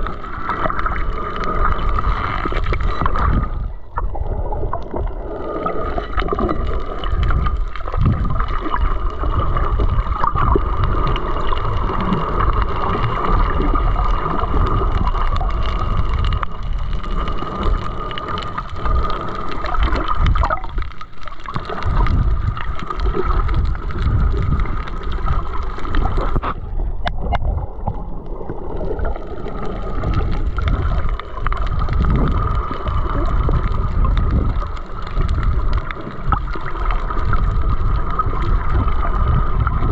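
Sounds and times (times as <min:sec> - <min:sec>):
low rumbling underwater noise: 0:00.0 - 0:39.9.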